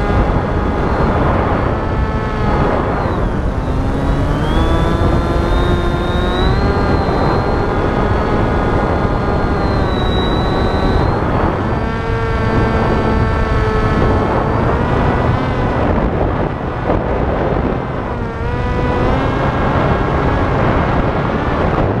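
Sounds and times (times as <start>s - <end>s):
electric motor and propeller whining: 0.0s - 22.0s
wind rush on microphone: 0.0s - 22.0s.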